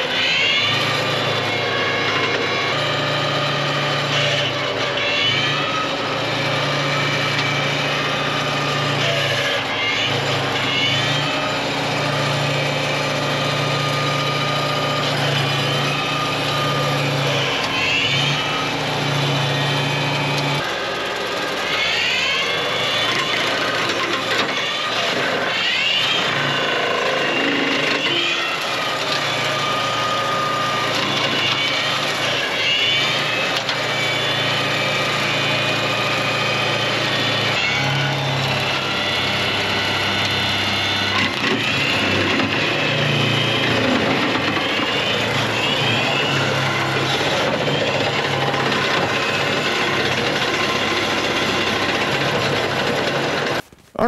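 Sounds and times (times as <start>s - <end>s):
brush cutter whining: 0.0s - 54.0s
tractor engine running: 0.0s - 54.0s.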